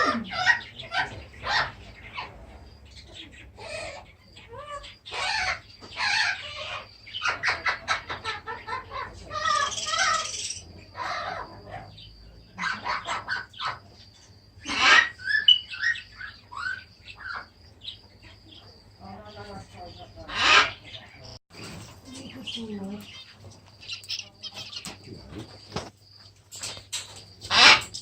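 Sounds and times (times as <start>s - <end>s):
pet birds chattering and squawking: 0.0s - 28.0s.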